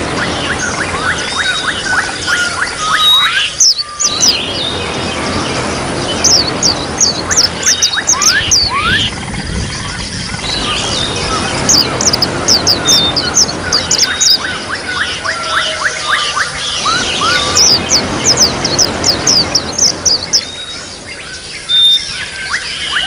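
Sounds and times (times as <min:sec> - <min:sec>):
songbirds twittering: 0:00.0 - 0:23.0
trickling water: 0:00.0 - 0:23.0.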